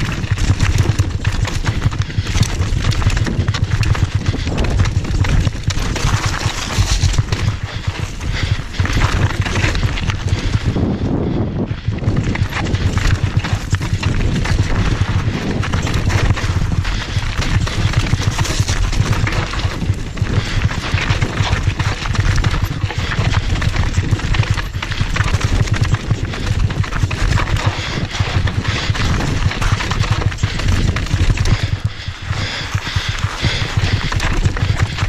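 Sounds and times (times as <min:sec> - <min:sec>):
mountain bike clattering over rocks: 0:00.0 - 0:10.9, 0:11.8 - 0:35.0.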